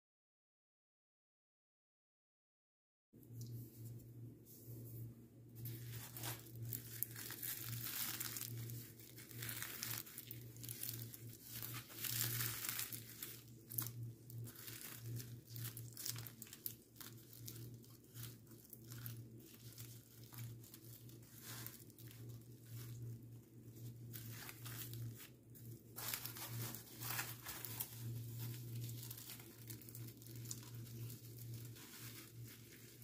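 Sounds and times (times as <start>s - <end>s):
flatbread tearing and crackling: 5.7s - 33.0s.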